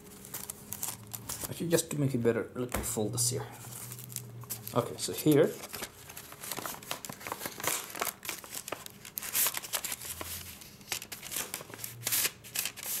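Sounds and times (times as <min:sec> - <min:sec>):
paper rustling and crinkling: 0:00.0 - 0:01.7, 0:03.6 - 0:13.0.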